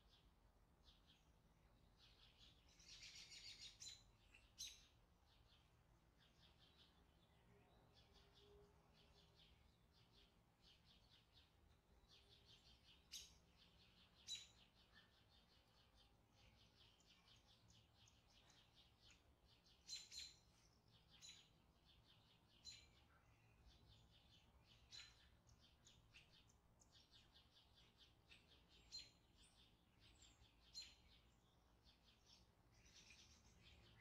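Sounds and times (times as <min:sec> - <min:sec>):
small bird chirping: 0:00.0 - 0:34.0.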